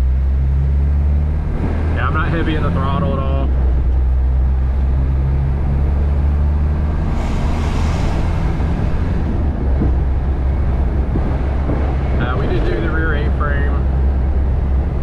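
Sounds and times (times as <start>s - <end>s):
diesel engine drone in cab: 0.0s - 15.0s
road noise: 0.0s - 15.0s.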